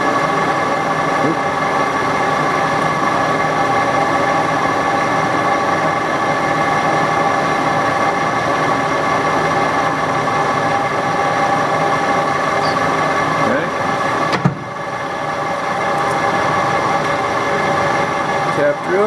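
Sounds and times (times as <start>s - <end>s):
metal lathe whining: 0.0s - 19.0s.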